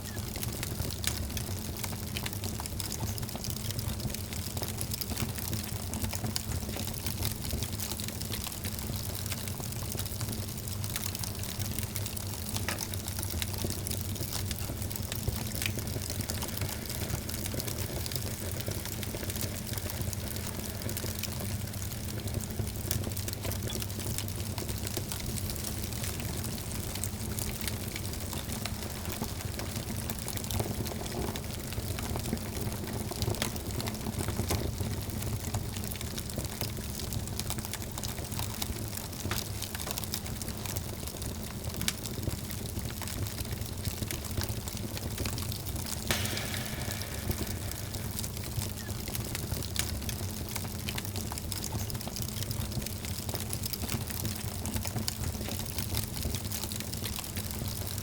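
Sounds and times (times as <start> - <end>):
fire crackling and popping: 0.1 - 58.0.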